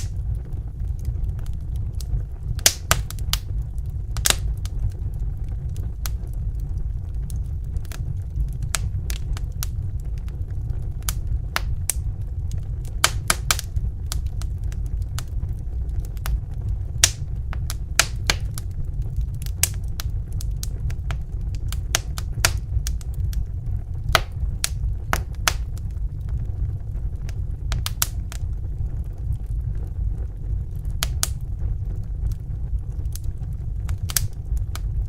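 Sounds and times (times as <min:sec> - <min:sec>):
low rumble of burning: 0:00.0 - 0:35.0
wood fire crackling: 0:00.0 - 0:35.0.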